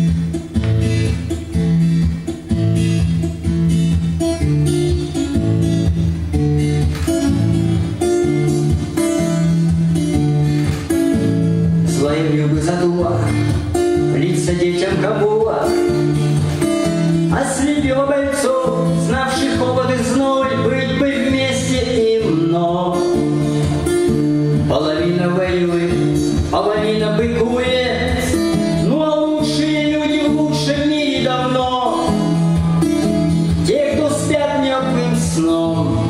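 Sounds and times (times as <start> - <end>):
strummed acoustic guitar: 0.0 - 36.0.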